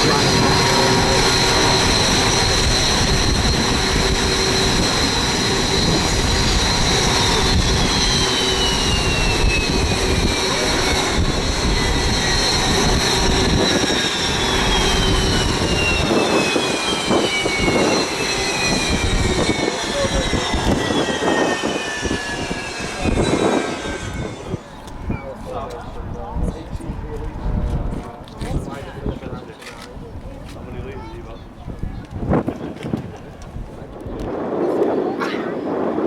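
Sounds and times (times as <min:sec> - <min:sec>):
jet engines whining: 0:00.0 - 0:36.0.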